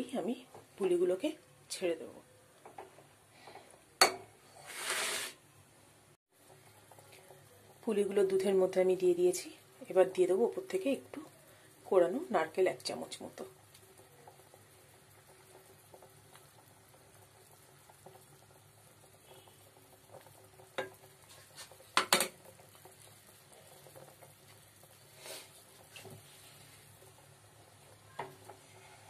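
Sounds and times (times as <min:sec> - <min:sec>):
milk simmering in a pan: 0:00.0 - 0:05.5, 0:06.2 - 0:29.0.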